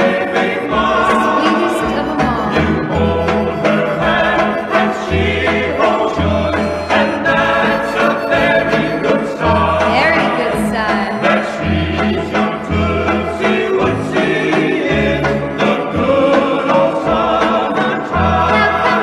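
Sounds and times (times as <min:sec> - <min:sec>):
bass line: 0:00.0 - 0:19.0
choir-like singing: 0:00.0 - 0:19.0
orchestral accompaniment: 0:00.0 - 0:19.0.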